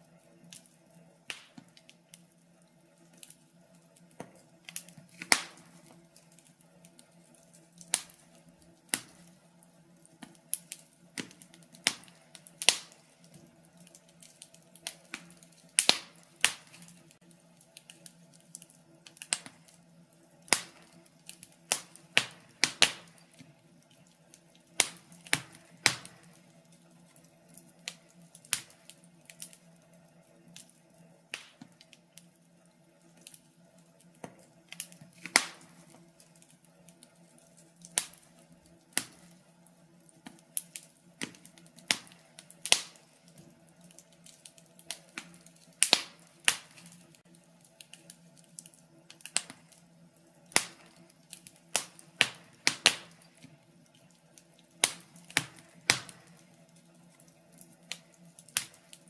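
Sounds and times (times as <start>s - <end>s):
faint steady hum: 0.0s - 59.0s
wood fire crackling: 0.0s - 59.0s.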